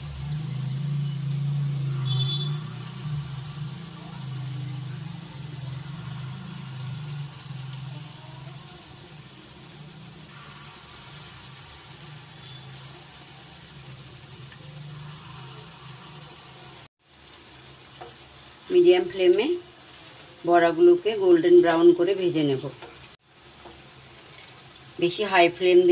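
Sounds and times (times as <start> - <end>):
fritters sizzling in hot oil: 0.0 - 25.9.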